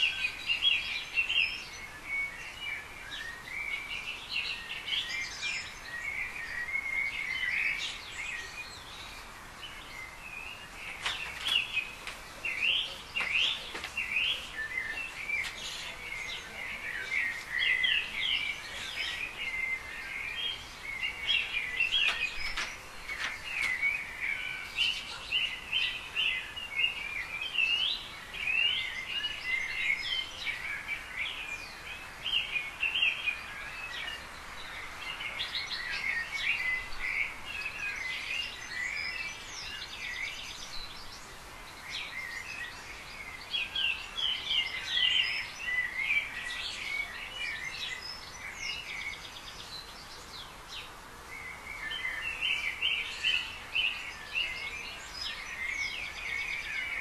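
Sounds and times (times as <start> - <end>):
birds chirping and singing: 0.0 - 57.0
faint background noise: 0.0 - 57.0.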